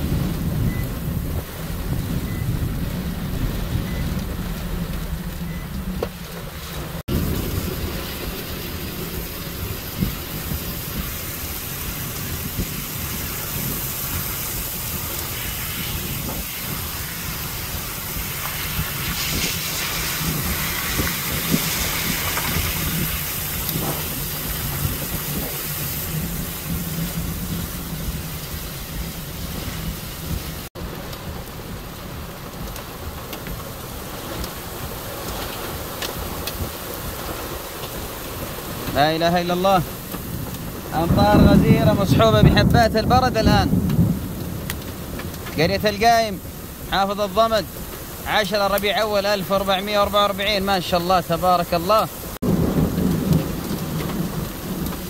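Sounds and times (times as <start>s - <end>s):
heavy rain with hail: 0.0s - 55.0s
wind rumbling on microphone: 0.0s - 55.0s.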